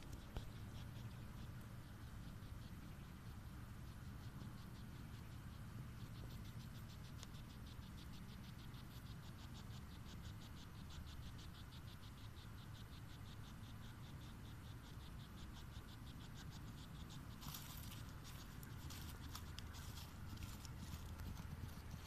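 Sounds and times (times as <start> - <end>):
insect chirping: 0.0 - 22.0
low steady rumble: 0.0 - 22.0.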